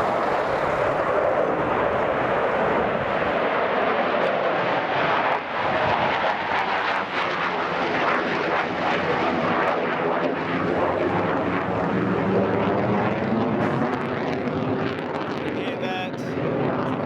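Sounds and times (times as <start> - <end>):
fighter jet engine noise: 0.0 - 17.0.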